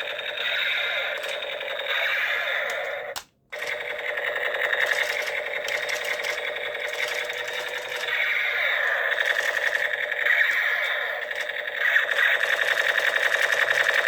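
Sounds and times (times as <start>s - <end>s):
toy gun rattling clatter: 0.0s - 14.0s.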